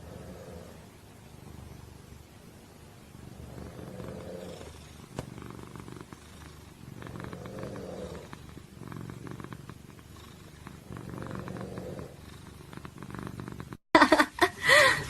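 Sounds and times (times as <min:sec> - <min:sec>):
cat purring: 0:00.0 - 0:13.8.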